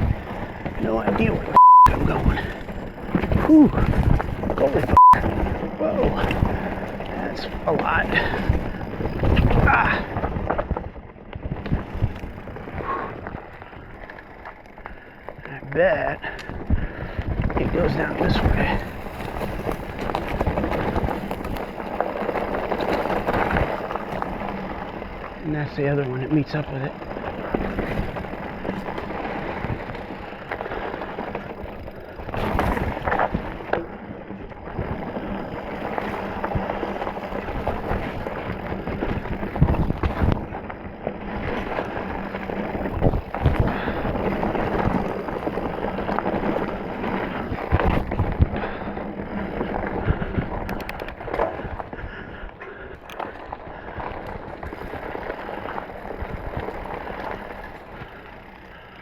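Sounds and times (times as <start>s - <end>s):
bike clattering over rocks: 0.0s - 59.0s
bike tyre noise: 0.0s - 59.0s.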